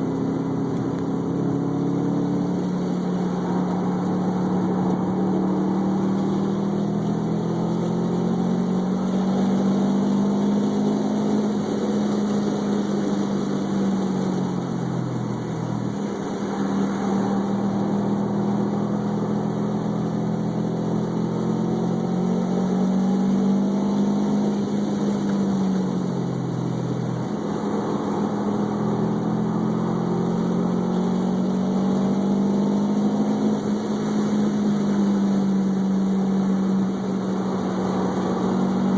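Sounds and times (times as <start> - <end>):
car engine running hard: 0.0 - 38.9.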